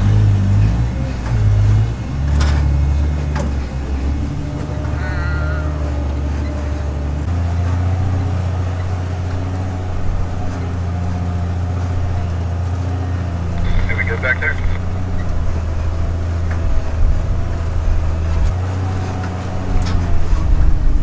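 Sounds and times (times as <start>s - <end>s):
off-road vehicle engine droning: 0.0s - 21.0s.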